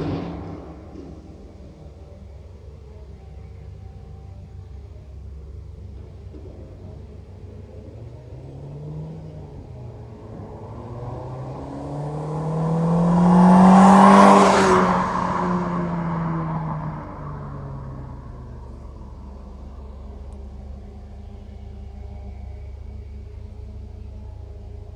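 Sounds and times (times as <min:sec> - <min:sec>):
car accelerating past: 0:00.0 - 0:01.9, 0:06.3 - 0:24.9.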